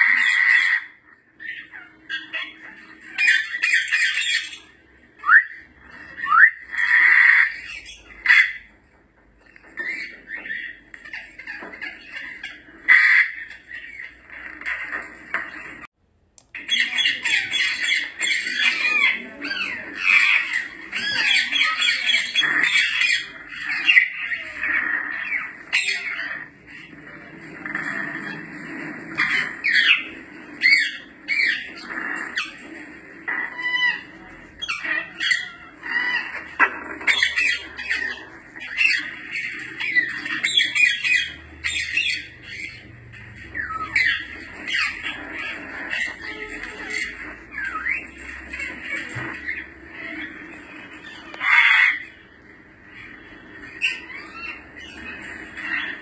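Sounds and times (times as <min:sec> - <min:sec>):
parrots whistling and squawking: 0:00.0 - 0:15.9, 0:16.6 - 0:56.0
steady background hum: 0:00.0 - 0:56.0.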